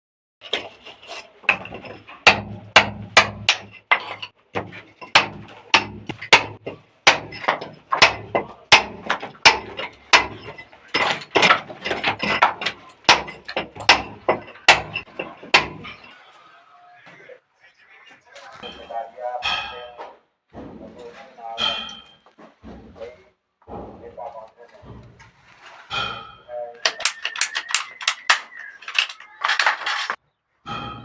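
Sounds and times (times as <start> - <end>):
hammer strikes: 0.4 - 16.1, 18.6 - 25.2, 25.9 - 31.0.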